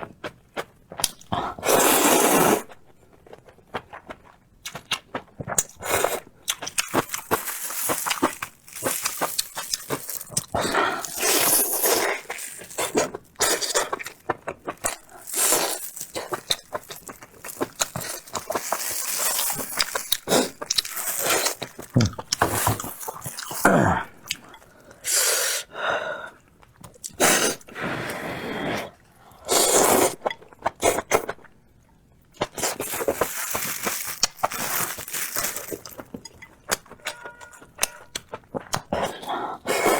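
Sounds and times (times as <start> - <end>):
person chewing food: 0.2 - 25.0, 29.9 - 39.9.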